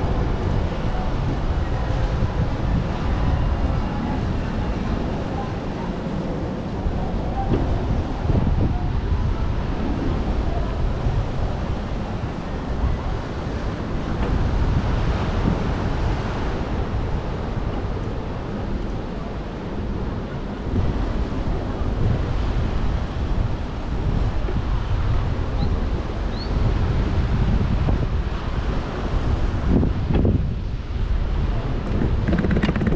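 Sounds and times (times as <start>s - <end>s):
ocean surf breaking: 0.0s - 32.9s
wind rumbling on microphone: 0.0s - 32.9s.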